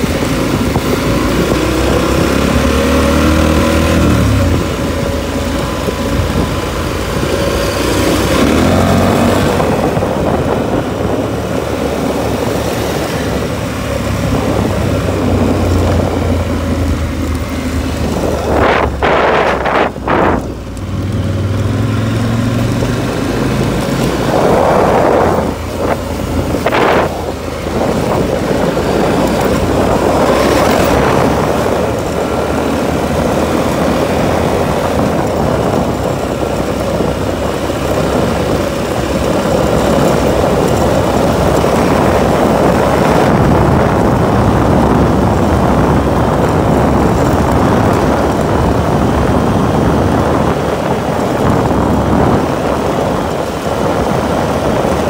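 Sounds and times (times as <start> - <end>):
off-road vehicle engine: 0.0 - 55.0
wind noise: 0.0 - 55.0.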